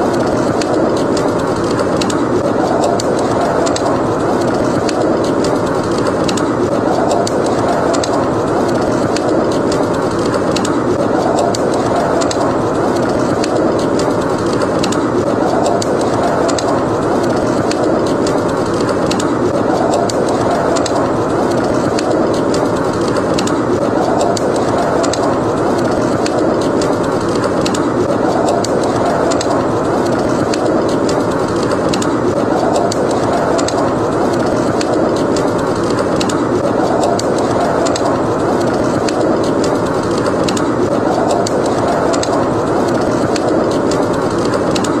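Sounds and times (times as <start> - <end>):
blizzard wind rushing: 0.0 - 45.0
wood fire crackling and popping: 0.0 - 45.0.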